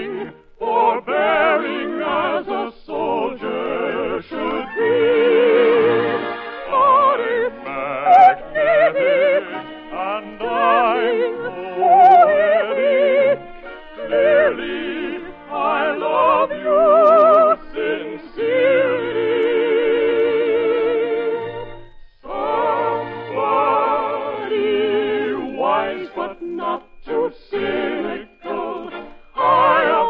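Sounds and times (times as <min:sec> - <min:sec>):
operatic singing with vibrato: 0:00.0 - 0:30.0
orchestral accompaniment: 0:00.0 - 0:30.0.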